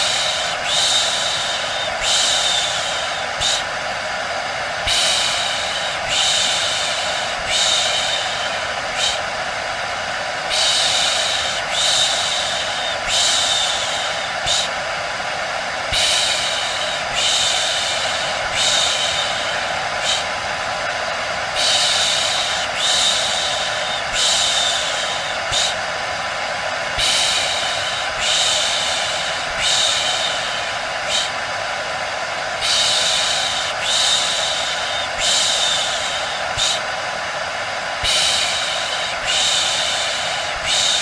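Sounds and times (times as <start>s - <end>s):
hair dryer running: 0.0s - 41.0s
rhythmic shushing hiss: 0.0s - 41.0s.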